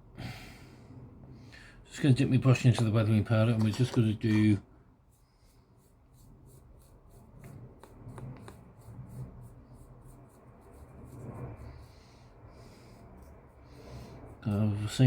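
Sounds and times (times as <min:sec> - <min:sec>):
paintbrush scratching on plastic: 0:02.8 - 0:15.0.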